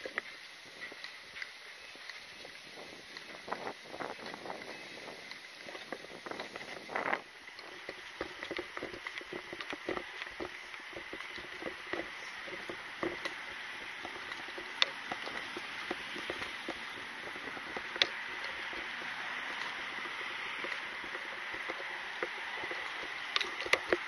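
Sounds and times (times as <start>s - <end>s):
footsteps: 0.0s - 24.0s
gear rattling and rustling: 0.0s - 24.0s
steady hiss: 0.0s - 24.0s.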